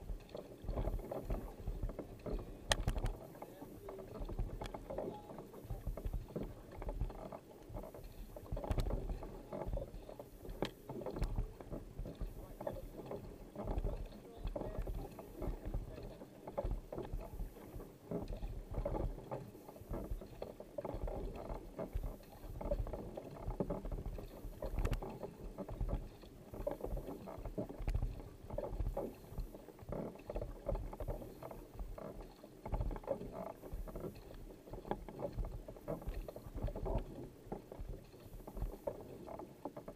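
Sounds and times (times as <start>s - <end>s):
paddle splashing in water: 0.0s - 39.9s
water washing along hull: 0.0s - 39.9s.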